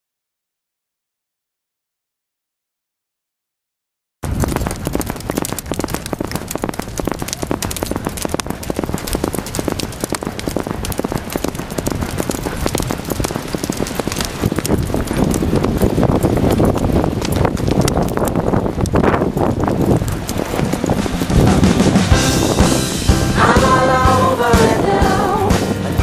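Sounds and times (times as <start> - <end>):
horses moving across sand: 4.2 - 26.0
steady low rumble: 4.2 - 26.0.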